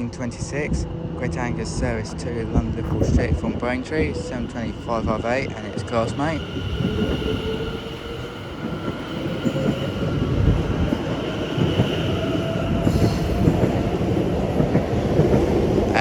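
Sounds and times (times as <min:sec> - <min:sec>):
electric train whine: 0:00.0 - 0:16.0
wheels rumbling on rail: 0:00.0 - 0:16.0.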